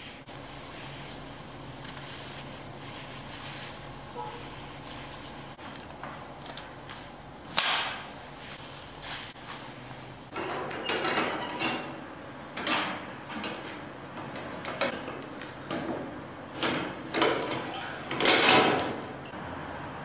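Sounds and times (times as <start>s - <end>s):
mop scraping in wringer bucket: 0.0s - 7.2s, 8.2s - 19.3s.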